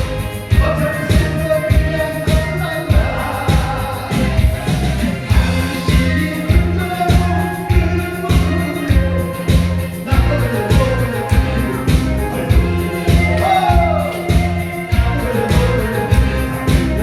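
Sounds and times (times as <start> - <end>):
drums played along: 0.0 - 17.0
upbeat song with singing: 0.0 - 17.0.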